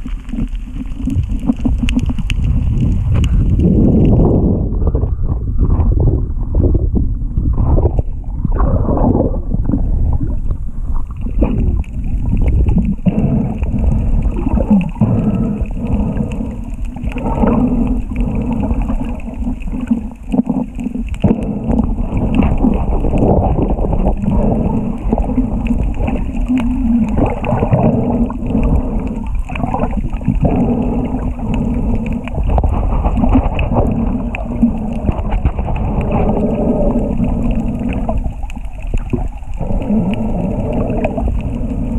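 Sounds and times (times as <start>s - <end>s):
air bubbles gurgling: 0.0s - 41.9s
muffled underwater rumbling: 0.0s - 41.9s.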